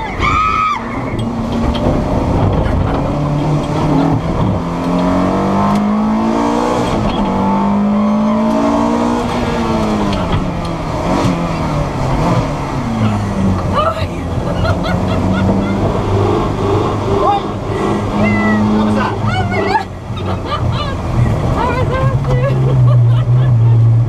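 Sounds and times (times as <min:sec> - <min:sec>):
road and tyre noise: 0:00.0 - 0:24.0
racing car engine revving: 0:00.8 - 0:24.0.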